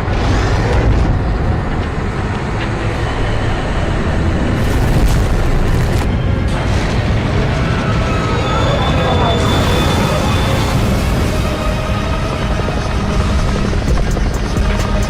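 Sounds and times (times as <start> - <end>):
loud deep rumble: 0.0 - 15.0.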